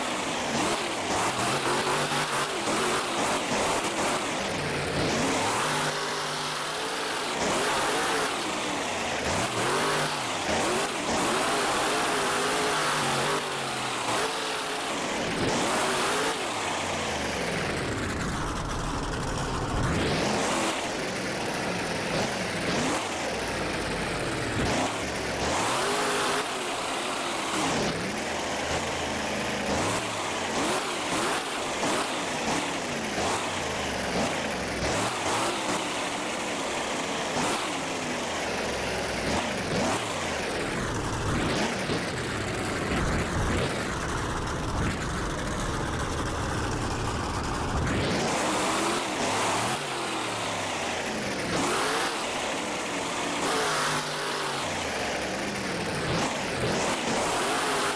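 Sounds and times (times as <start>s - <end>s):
monster truck engine revving: 0.0s - 57.9s.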